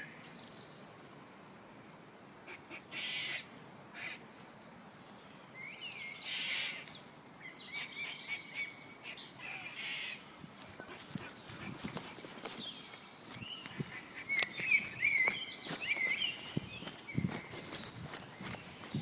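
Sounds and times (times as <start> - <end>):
birds chirping and calling: 2.2 - 19.0.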